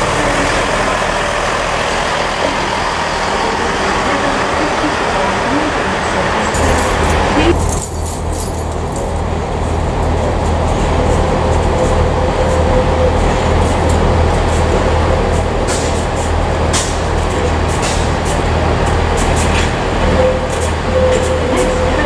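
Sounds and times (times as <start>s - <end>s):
train engine humming: 0.0s - 22.0s.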